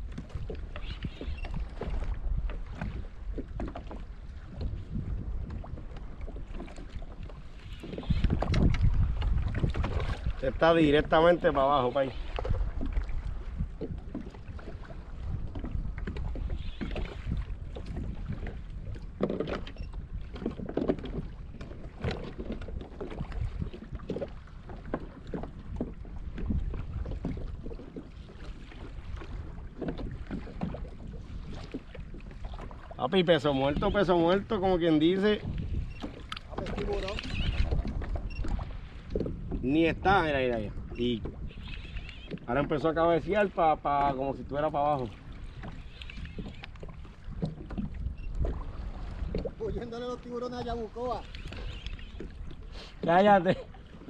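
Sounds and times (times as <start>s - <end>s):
light knocks and splashes: 0.0s - 11.5s, 12.2s - 39.6s, 40.5s - 54.0s
water slapping against hull: 0.0s - 54.0s
wind buffeting microphone: 0.0s - 54.0s.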